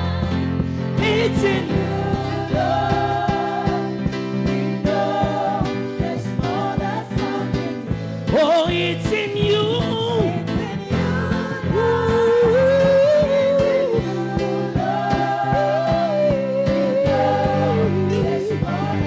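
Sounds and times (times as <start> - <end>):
gospel band with drum beat: 0.0 - 19.0.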